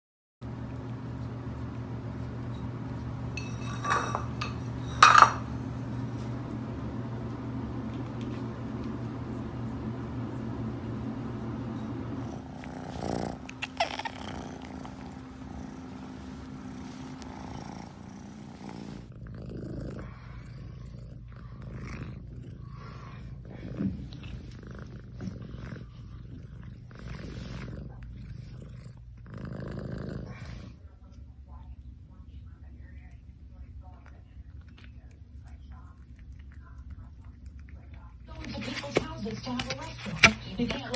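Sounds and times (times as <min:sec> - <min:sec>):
cats purring: 0:00.5 - 0:40.9.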